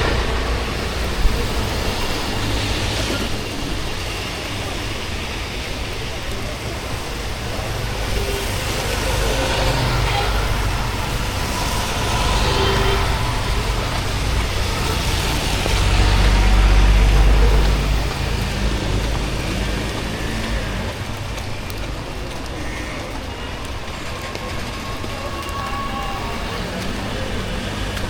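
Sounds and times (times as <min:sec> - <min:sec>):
rain hissing on wet road: 0:00.0 - 0:28.0.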